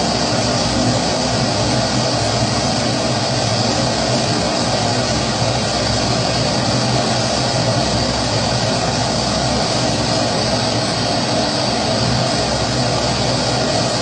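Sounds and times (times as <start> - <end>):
kerosene stove burner roaring: 0.0 - 14.0.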